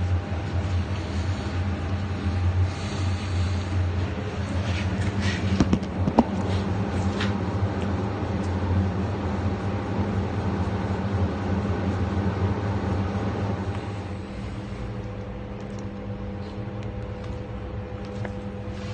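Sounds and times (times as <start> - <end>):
low mechanical hum: 0.0 - 18.9.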